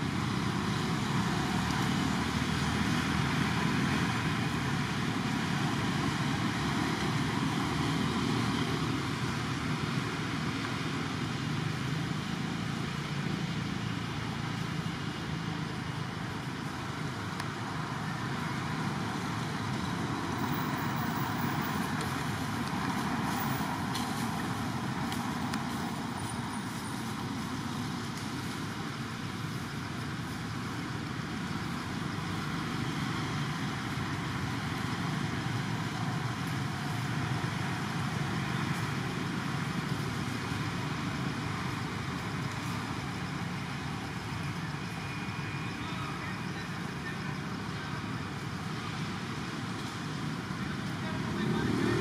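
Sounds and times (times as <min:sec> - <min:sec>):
outdoor background rumble and hiss: 0:00.0 - 0:52.0.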